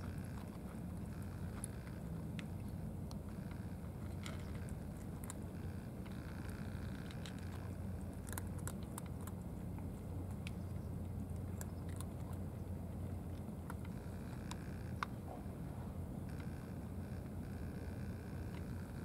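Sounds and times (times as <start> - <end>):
cats crunching dry kibble: 0.0 - 15.2, 16.3 - 19.0.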